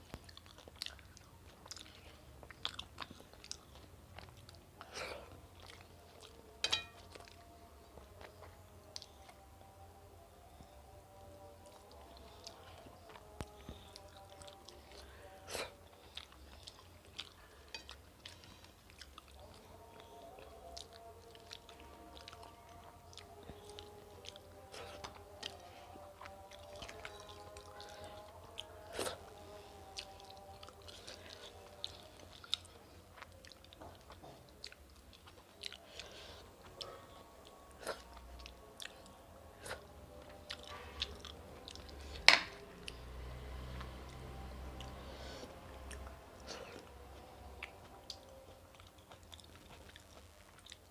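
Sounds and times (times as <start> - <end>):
close-up chewing: 0.0 - 50.9.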